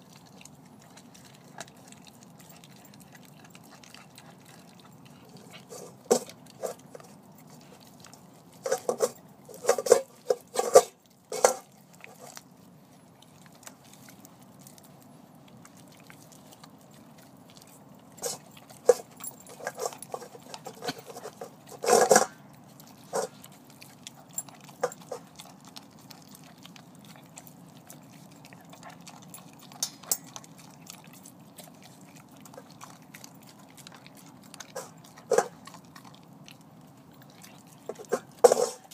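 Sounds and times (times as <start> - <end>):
dog crunching on bone: 0.0 - 38.9
low steady hum: 0.0 - 38.9.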